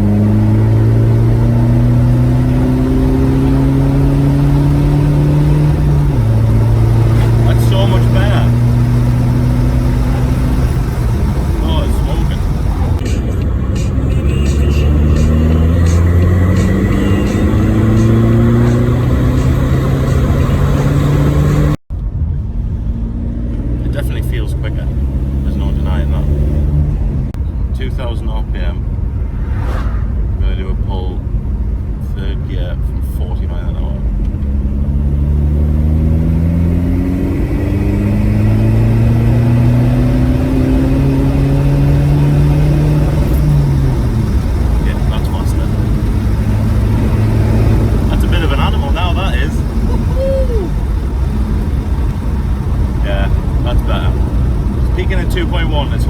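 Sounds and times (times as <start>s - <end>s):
diesel engine accelerating: 0.0s - 56.0s.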